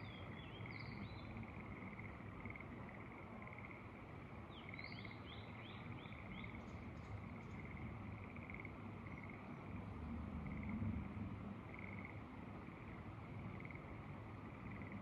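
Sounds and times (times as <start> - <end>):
frogs calling in pulsed trills: 0.0 - 6.6, 7.4 - 9.5, 10.4 - 10.8, 11.6 - 15.0
low rumble of wind: 0.0 - 15.0.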